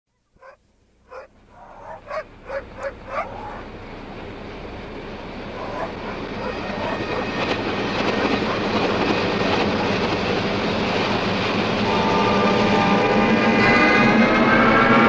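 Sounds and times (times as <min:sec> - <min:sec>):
reversed train rumble: 0:00.2 - 0:15.0.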